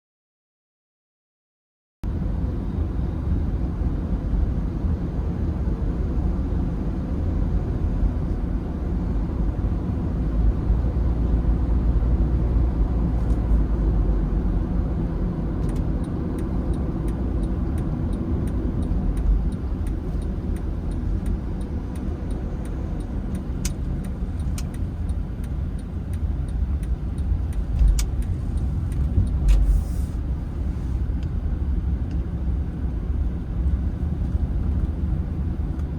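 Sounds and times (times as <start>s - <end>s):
car driving rumble: 2.1s - 35.9s.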